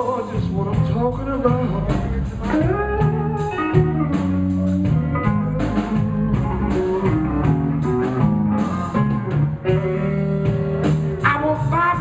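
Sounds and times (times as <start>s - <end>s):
bass: 0.0s - 12.0s
drum kit steady beat: 0.0s - 12.0s
electric guitar: 0.0s - 12.0s.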